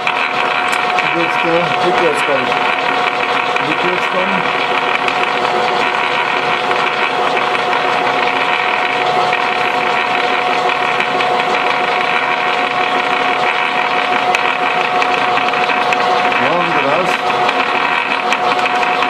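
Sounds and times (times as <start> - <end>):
gearbox whining: 0.0 - 19.0.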